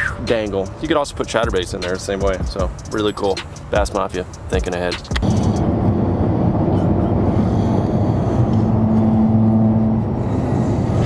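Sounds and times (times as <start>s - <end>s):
road and engine rumble: 0.0s - 11.0s
steady hum: 0.0s - 11.0s.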